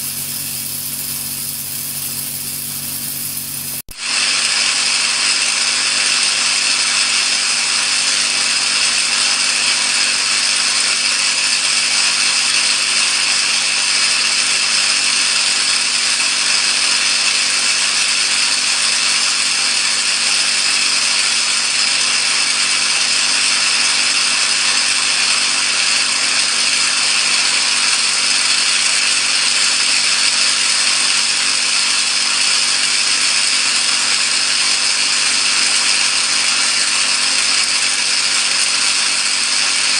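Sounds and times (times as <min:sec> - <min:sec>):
electric arc sizzling in water: 0:00.0 - 0:39.9.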